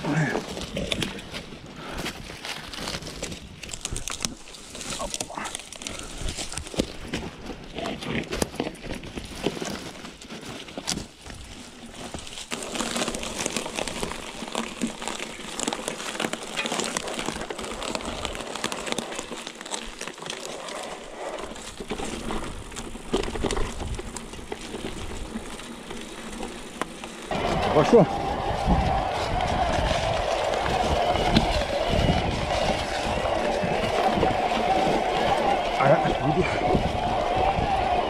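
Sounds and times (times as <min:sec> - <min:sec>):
bike tyres crackling over leaves: 0:00.0 - 0:38.0.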